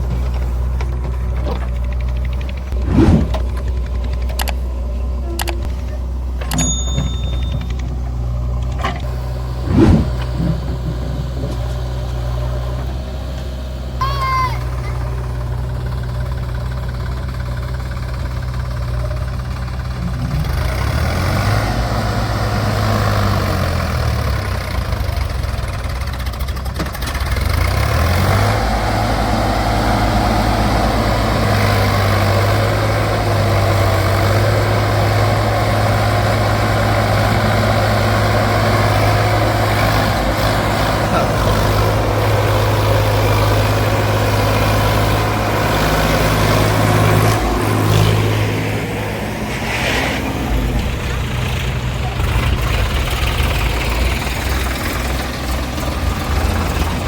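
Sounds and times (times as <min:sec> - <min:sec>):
heavy diesel engine: 0:00.0 - 0:57.0.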